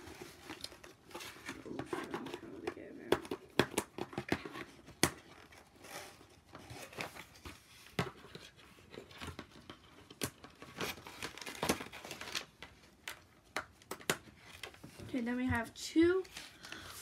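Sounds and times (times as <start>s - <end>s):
packaging crinkling and rustling: 0.0s - 15.3s.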